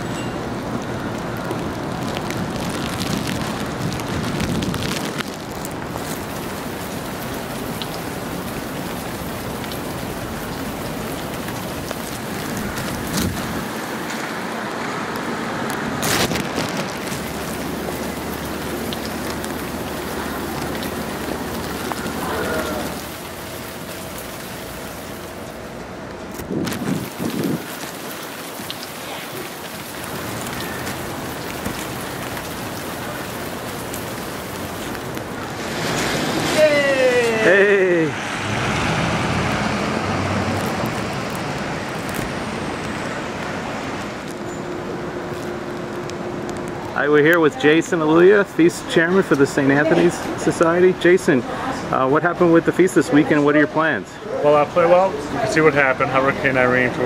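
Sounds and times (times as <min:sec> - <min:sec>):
rain falling on wet streets: 0:00.0 - 0:57.0.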